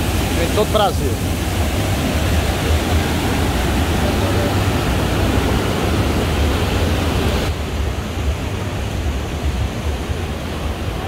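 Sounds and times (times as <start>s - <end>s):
water rushing over spillway: 0.0s - 11.0s.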